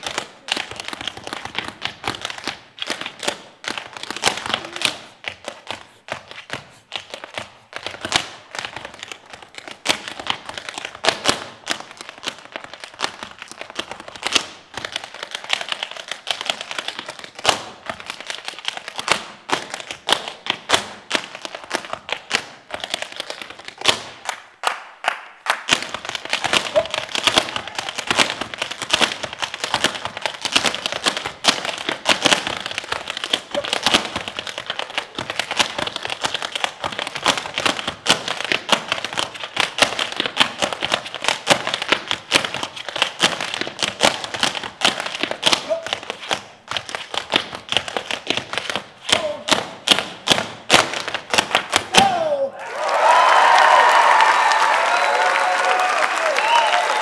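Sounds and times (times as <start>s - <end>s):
tap shoes on stage floor: 0.0s - 57.0s.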